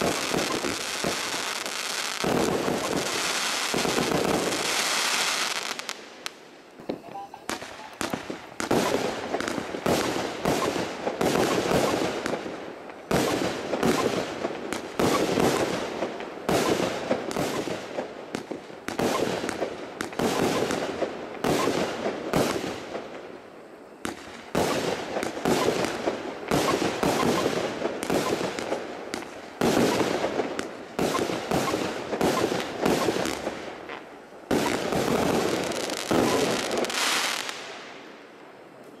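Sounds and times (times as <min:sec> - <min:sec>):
firework shots: 0:00.0 - 0:23.3, 0:24.0 - 0:38.1
crackling firework stars: 0:00.0 - 0:39.0.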